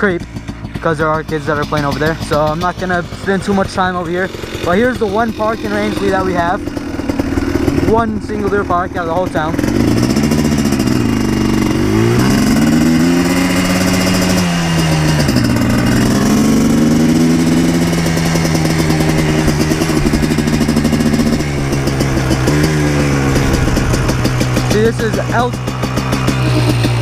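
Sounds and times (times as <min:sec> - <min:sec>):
quad two-stroke engine running: 0:00.0 - 0:27.0.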